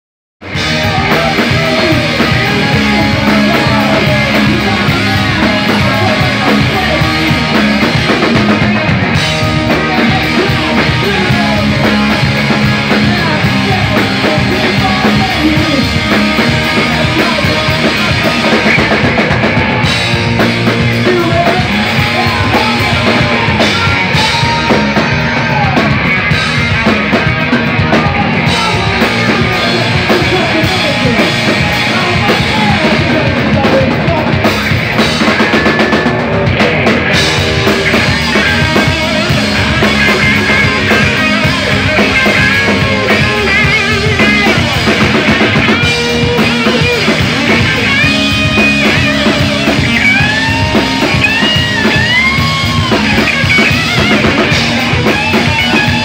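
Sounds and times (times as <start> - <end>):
drum kit pounding: 0.4 - 56.0
electric guitar: 0.4 - 56.0
live rock band playing: 0.4 - 56.0.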